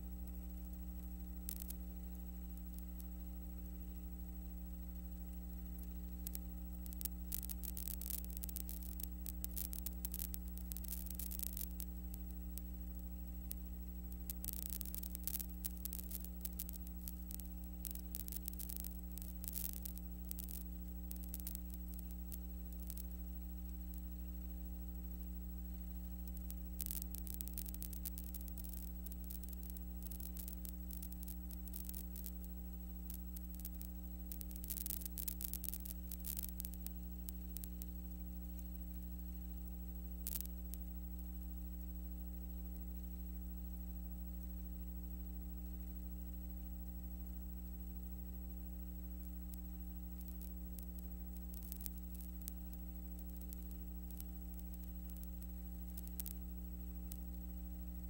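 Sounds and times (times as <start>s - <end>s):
electrical mains hum: 0.0s - 58.0s
static crackles: 0.0s - 58.0s.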